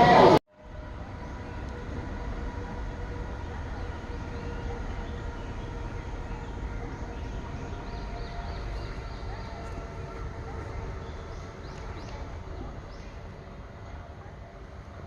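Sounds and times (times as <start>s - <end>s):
faint steady tones: 0.0s - 15.0s
low rumble and hum: 0.0s - 15.0s.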